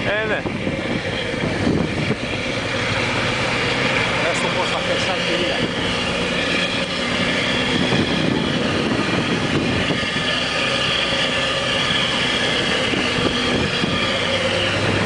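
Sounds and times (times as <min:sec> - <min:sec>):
churning propeller wash: 0:00.0 - 0:15.0
ship engine drone: 0:00.0 - 0:15.0.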